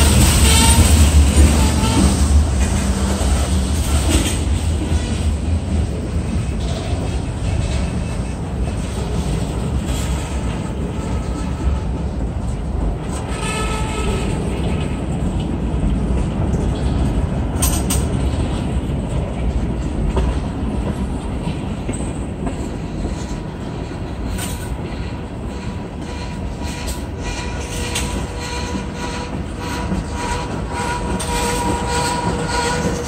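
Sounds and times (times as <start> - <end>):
steel wheels rumbling on rails: 0.0 - 33.0.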